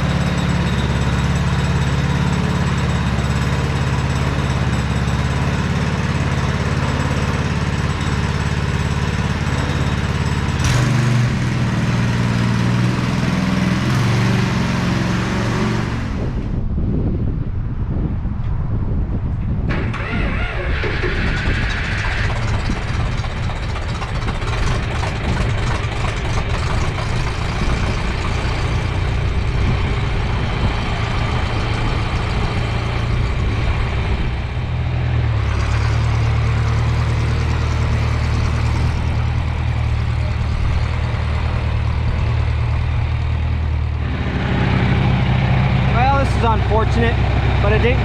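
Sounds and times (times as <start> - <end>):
heavy vehicle engine humming: 0.0 - 48.0.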